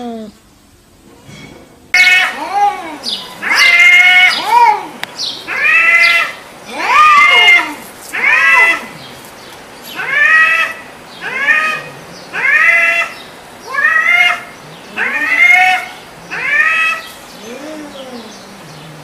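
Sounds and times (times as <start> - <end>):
cats yowling: 2.0 - 9.1, 10.0 - 19.0.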